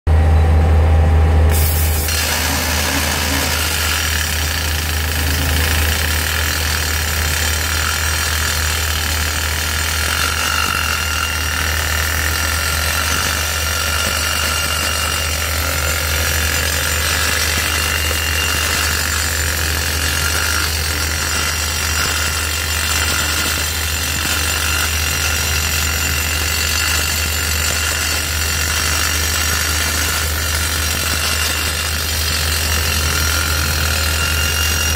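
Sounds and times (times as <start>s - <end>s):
hydraulic drill boring into concrete: 1.5s - 34.9s.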